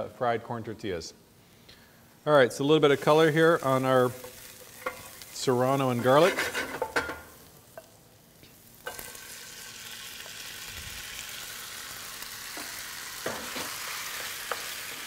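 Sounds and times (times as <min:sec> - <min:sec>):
beans sizzling in hot oil: 0:02.6 - 0:15.0.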